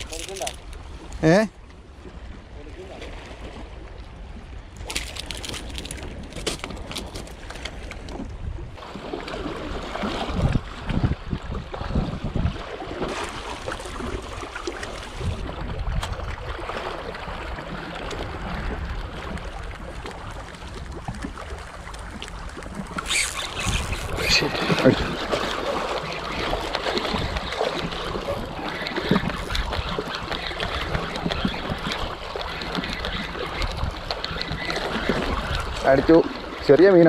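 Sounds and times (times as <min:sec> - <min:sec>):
sea washing against rocky shore: 0:00.0 - 0:01.5, 0:08.8 - 0:37.0
wind on microphone: 0:04.3 - 0:36.5.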